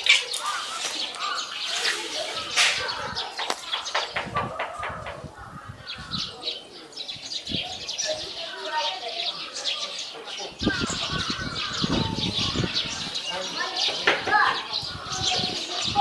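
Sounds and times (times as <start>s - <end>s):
raccoons chirping: 0.0s - 16.0s.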